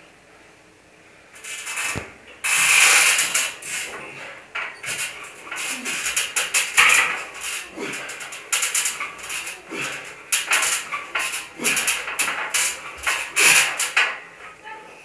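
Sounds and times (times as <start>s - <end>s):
cable running over pulleys: 1.4s - 14.6s
weight stack clicking: 1.4s - 14.6s.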